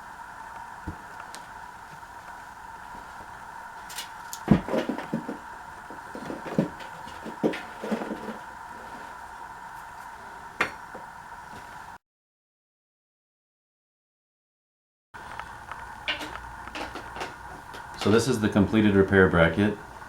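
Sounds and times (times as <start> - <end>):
steady background hum: 0.0 - 12.0, 15.2 - 20.0.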